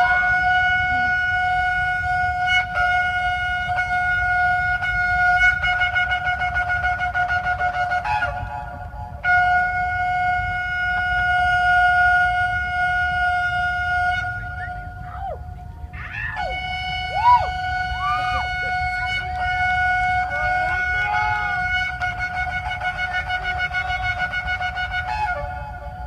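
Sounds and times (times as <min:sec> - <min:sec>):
long steady horn note: 0:00.0 - 0:26.0.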